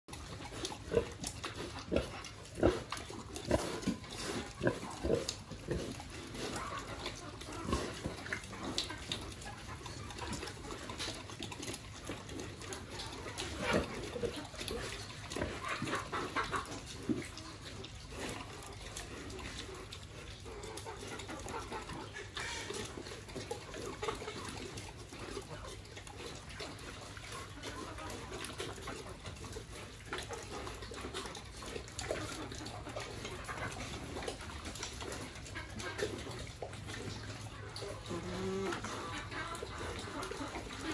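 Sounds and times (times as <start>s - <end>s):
pig eating from trough: 0.1s - 40.9s
pig sounds: 0.1s - 40.9s.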